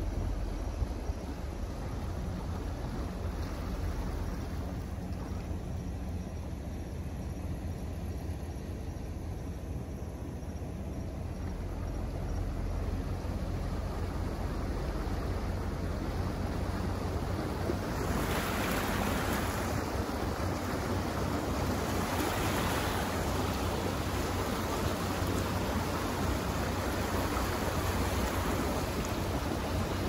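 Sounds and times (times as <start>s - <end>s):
road and engine rumble: 0.0s - 30.0s.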